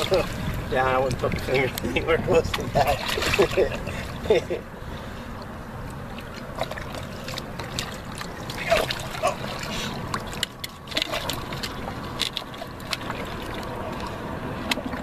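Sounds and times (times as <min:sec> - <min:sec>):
shallow water splashing: 0:00.0 - 0:15.0.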